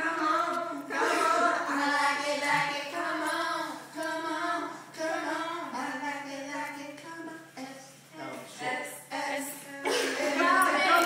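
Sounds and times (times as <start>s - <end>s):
women singing: 0.0s - 11.0s.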